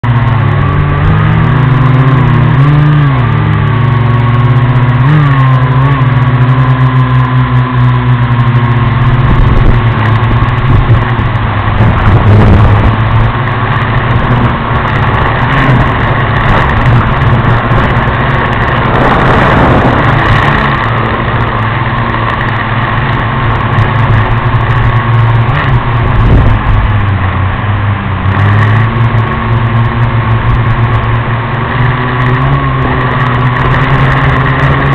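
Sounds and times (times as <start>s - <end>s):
drone propellers buzzing: 0.0s - 34.9s.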